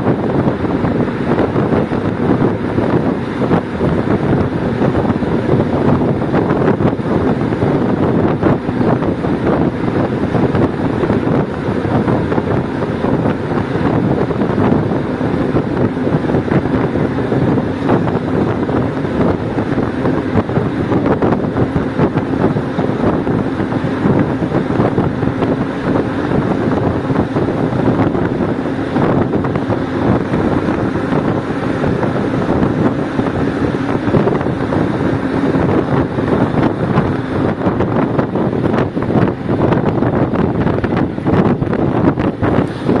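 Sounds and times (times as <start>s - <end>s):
wind rushing in a tunnel: 0.0s - 43.0s.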